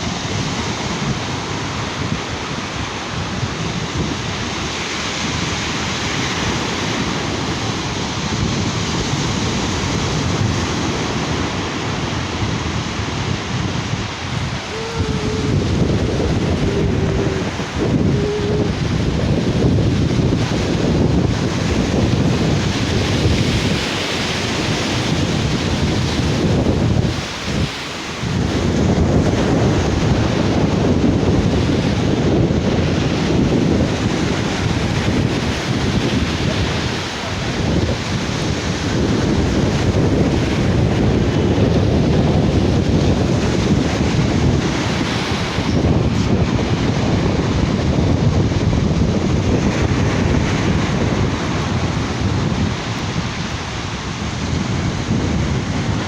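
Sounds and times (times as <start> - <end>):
surf breaking on beach: 0.0 - 56.0
wind buffeting microphone: 0.0 - 56.0.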